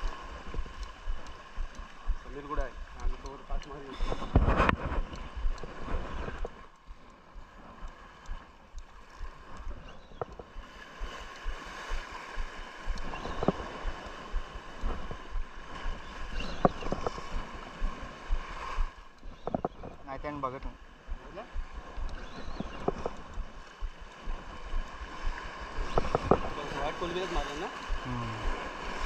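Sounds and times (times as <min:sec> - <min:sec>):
wind buffeting microphone: 0:00.0 - 0:06.6, 0:07.4 - 0:29.0
sea water washing and gurgling: 0:00.0 - 0:29.0.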